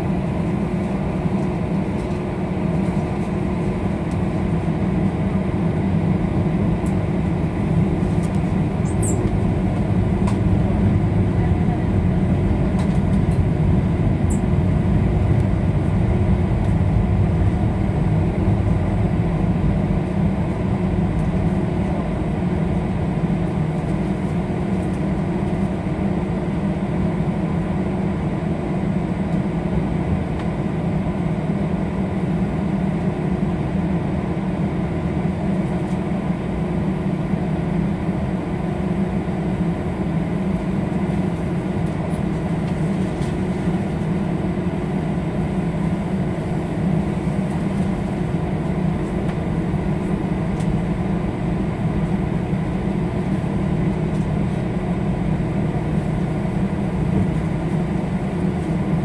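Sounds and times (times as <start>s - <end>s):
faint steady whine: 0.0s - 59.0s
jet engines rumbling: 0.0s - 59.0s.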